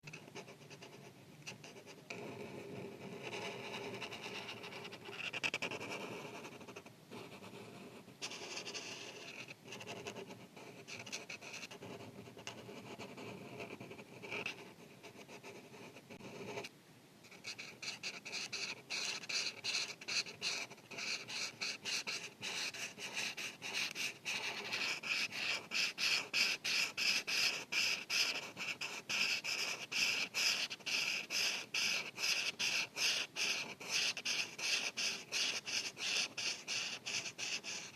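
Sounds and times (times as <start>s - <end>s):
marker rubbing on paper: 0.1s - 16.7s, 17.3s - 37.9s.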